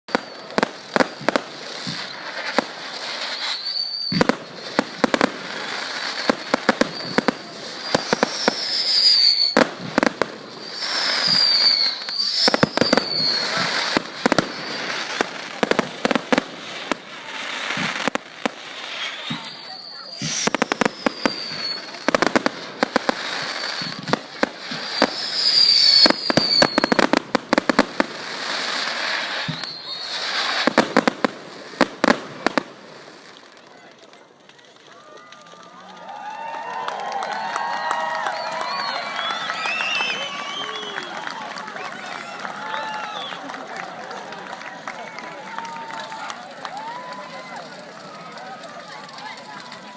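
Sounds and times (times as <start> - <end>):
rising firework whistle: 0.1 - 33.5, 35.1 - 49.9
fireworks bangs and crackles: 0.1 - 49.9.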